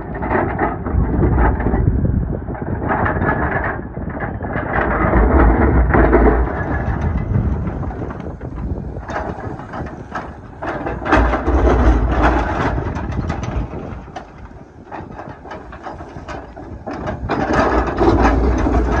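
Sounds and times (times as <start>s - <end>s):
clattering and knocking: 2.9s - 19.0s
excavator diesel engine working: 3.4s - 19.0s.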